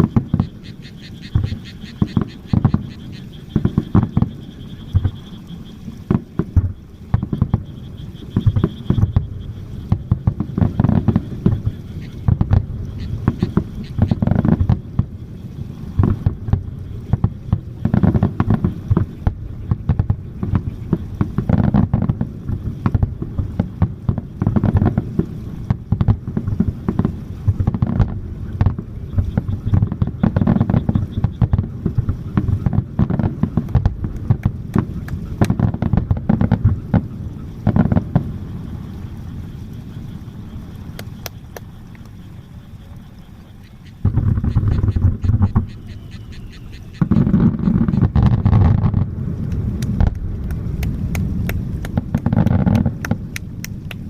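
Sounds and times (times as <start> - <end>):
firework shells booming and crackling: 0.0 - 54.0.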